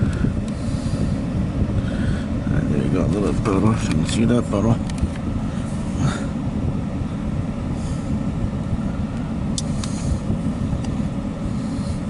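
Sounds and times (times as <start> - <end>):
train cars rolling low rumble: 0.0 - 12.0.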